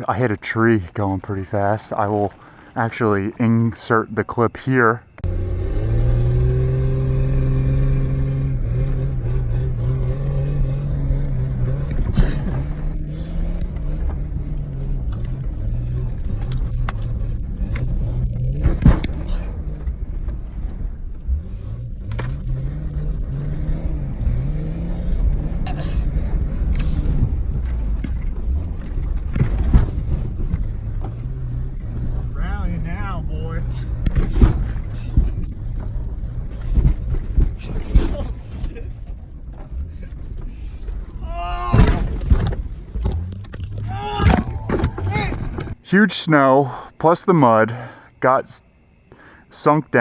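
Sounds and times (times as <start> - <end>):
car engine revving: 5.1 - 46.0.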